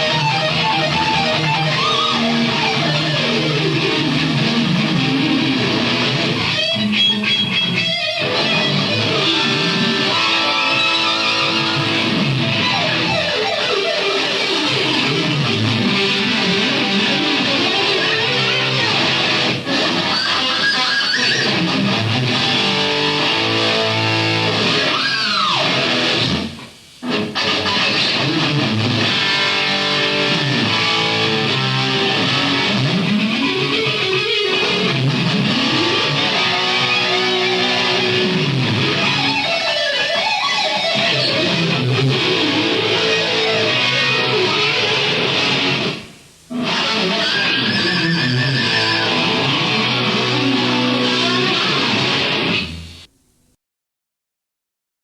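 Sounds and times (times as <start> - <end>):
electric guitar lead runs: 0.0 - 53.1.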